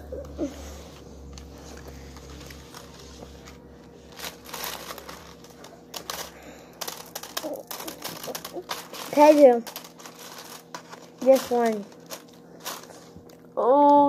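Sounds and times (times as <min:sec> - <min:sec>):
hands rustling small objects: 0:01.3 - 0:13.4.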